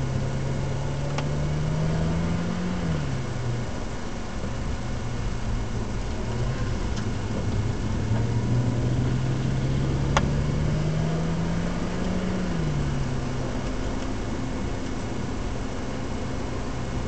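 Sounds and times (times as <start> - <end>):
car engine accelerating: 0.0 - 17.0
tyre and road noise: 0.0 - 17.0.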